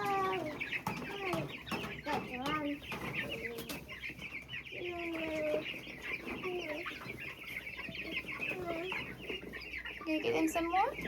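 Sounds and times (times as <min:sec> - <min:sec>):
baby chicks cheeping: 0:00.0 - 0:11.0.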